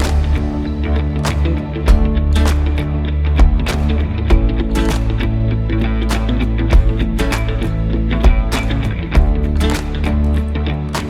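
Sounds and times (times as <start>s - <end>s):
deep bass hit: 0.0s - 10.4s
background music with beat and guitar: 0.0s - 11.0s.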